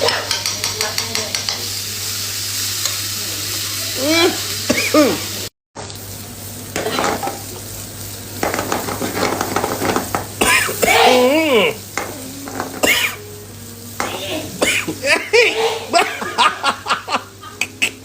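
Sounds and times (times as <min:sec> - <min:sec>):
meat sizzling in frying pan: 0:00.0 - 0:18.0.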